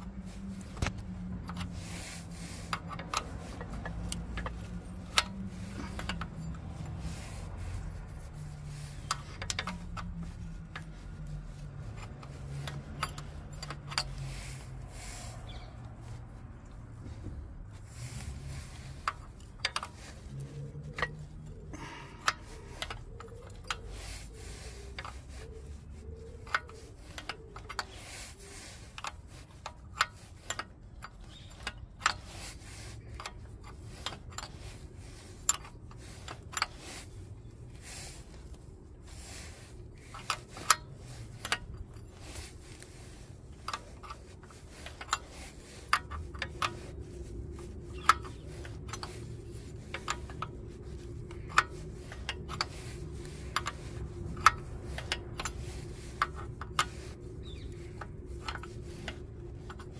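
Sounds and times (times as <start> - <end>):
wrench clinking on bolts: 0.5 - 16.8, 17.9 - 59.9.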